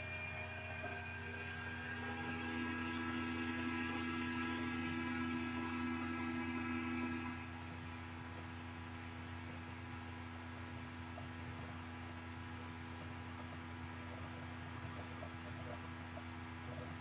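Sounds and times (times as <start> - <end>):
loud humming tone: 0.0 - 17.0
steady low hum: 0.0 - 17.0.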